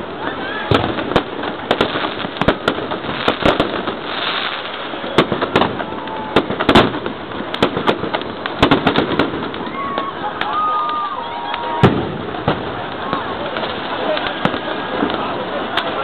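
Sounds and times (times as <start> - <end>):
fireworks bangs and cracks: 0.0 - 16.0
fireworks crackling: 0.0 - 16.0.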